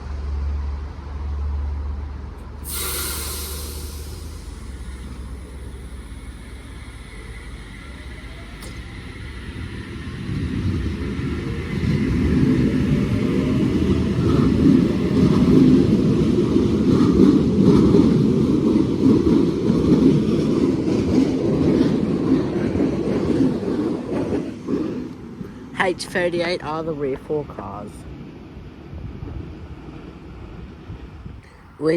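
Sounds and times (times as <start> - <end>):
electric train passing: 0.0 - 31.9
train wheels rumbling on rails: 0.0 - 31.9.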